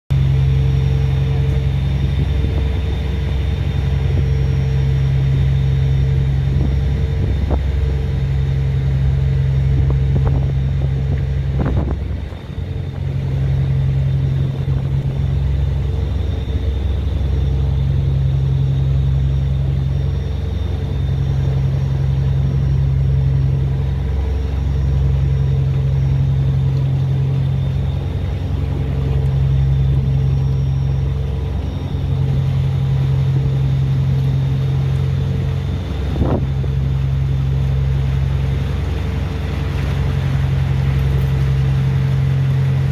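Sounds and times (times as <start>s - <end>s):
ferry engine droning: 0.1s - 42.9s.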